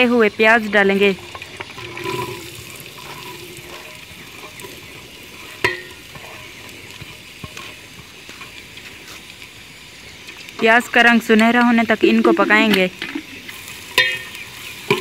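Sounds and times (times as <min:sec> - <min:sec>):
onions sizzling in a pot: 0:00.0 - 0:15.0.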